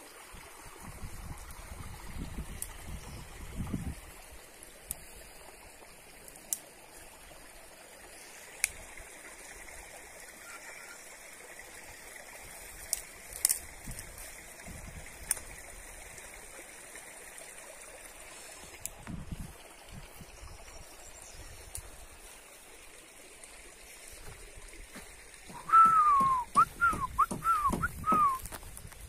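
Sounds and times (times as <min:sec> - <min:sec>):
creek rushing and trickling: 0:00.0 - 0:29.0.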